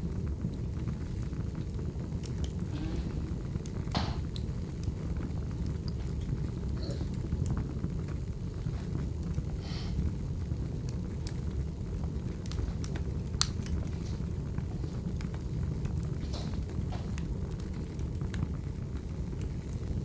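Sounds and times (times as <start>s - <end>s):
burning logs rumbling: 0.0s - 20.0s
fire pops and snaps: 0.0s - 20.0s.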